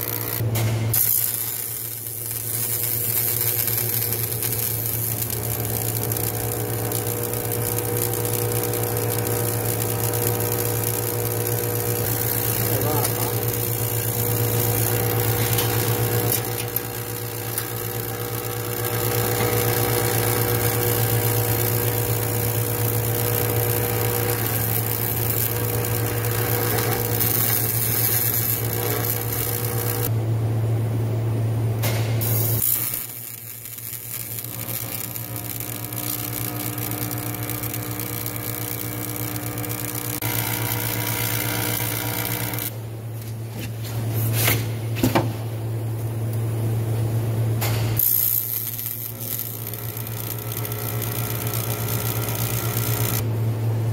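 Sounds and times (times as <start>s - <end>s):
welding arc buzzing crackle: 0.0s - 30.2s, 31.6s - 53.9s.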